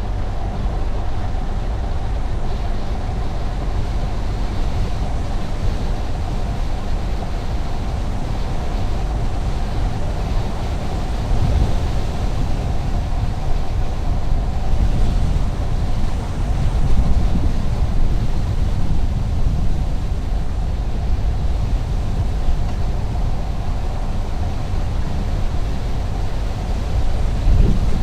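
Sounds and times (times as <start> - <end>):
car driving on highway: 0.0 - 28.0
faint steady hum: 0.0 - 28.0.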